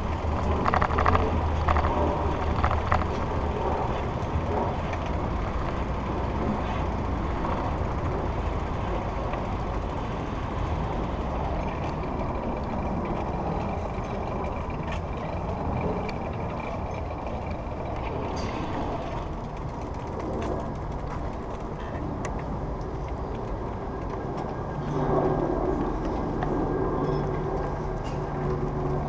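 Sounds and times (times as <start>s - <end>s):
bike ticks and rattles: 0.0s - 29.0s
low hum: 0.0s - 29.0s
wind and road rush: 0.0s - 29.0s.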